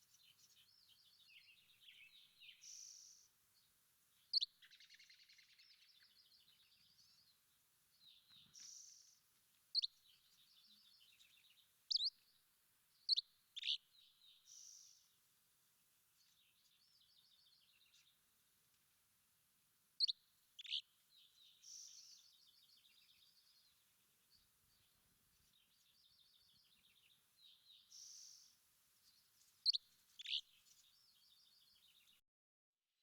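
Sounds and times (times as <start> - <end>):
songbirds twittering: 0.0 - 15.3, 16.2 - 18.3, 20.0 - 32.2.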